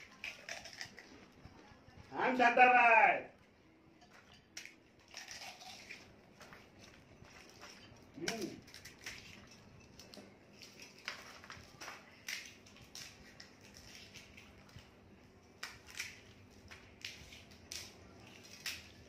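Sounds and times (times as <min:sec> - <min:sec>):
fried shells cracking: 0:00.0 - 0:01.4, 0:04.2 - 0:06.5, 0:07.4 - 0:19.0.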